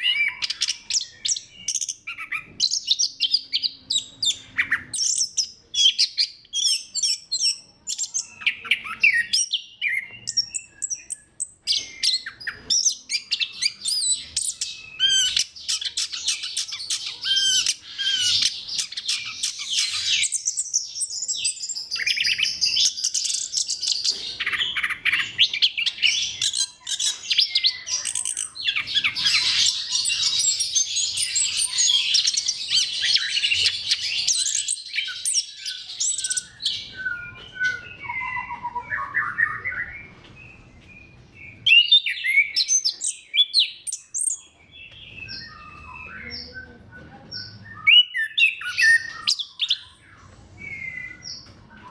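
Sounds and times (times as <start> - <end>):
bird singing chirps and trills: 0.0 - 51.9.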